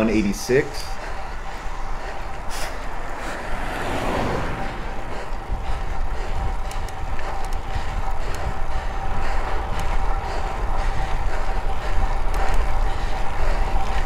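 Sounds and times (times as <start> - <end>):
road noise rumble: 0.0 - 14.0
thin steady whine: 0.0 - 14.0.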